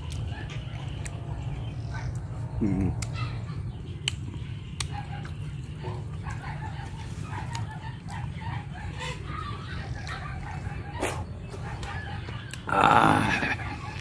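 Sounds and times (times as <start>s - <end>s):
chickens clucking: 0.0s - 12.7s.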